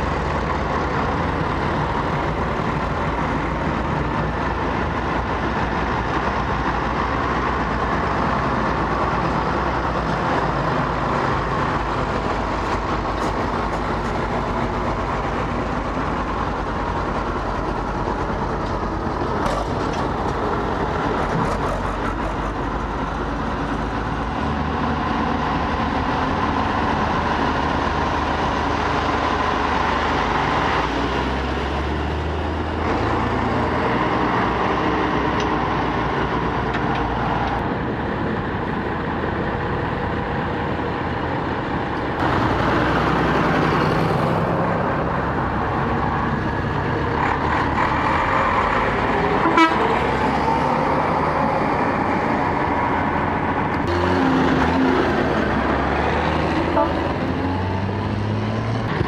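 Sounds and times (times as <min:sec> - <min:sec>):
tractor diesel engines running: 0:00.0 - 0:59.0.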